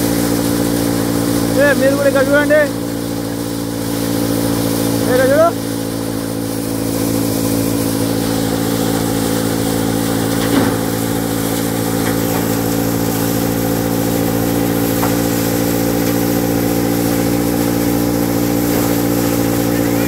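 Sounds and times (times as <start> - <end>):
threshing machine running: 0.0 - 20.0.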